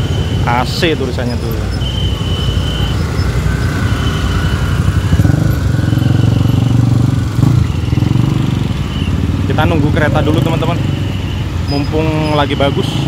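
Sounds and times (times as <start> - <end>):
motorcycle engines running: 0.0 - 13.0
road traffic: 0.0 - 13.0.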